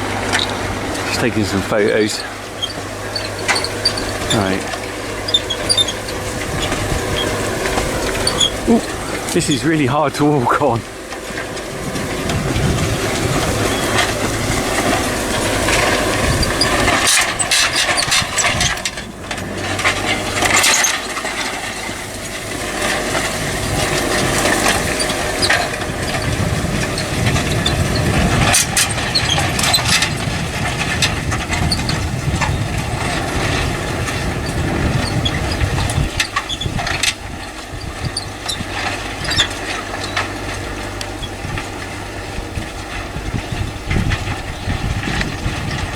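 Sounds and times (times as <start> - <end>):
tractor engine running: 0.0 - 45.9
sharp clicks and crunches: 0.1 - 45.9.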